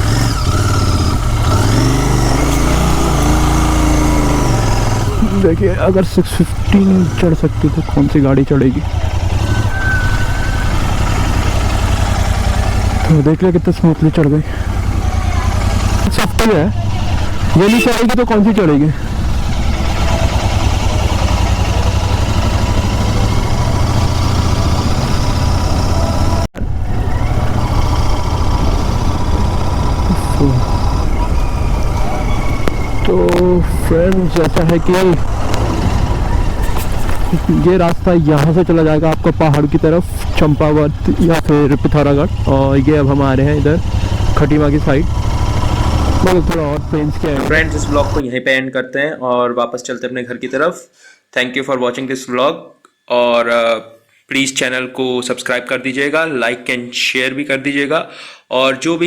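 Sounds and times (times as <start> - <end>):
motorcycle engine revving: 0.0 - 48.2.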